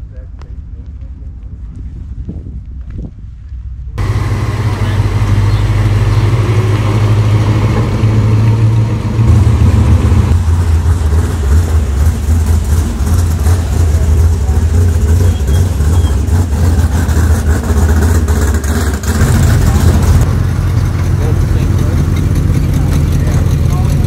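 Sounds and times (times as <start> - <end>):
classic car engines driving past: 4.0 - 24.0.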